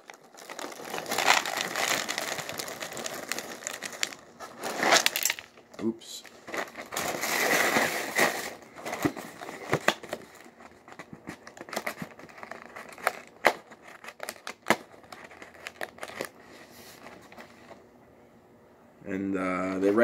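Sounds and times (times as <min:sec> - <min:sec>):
plastic bag crinkling: 0:00.0 - 0:05.6, 0:06.2 - 0:17.4.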